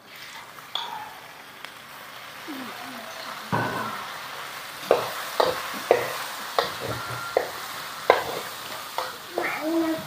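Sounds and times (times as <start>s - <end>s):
beef sizzling in a wok: 0.0s - 10.0s.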